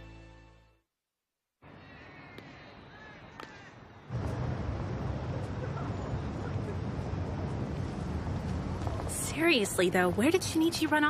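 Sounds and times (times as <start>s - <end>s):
city street traffic rumble: 1.6s - 11.0s.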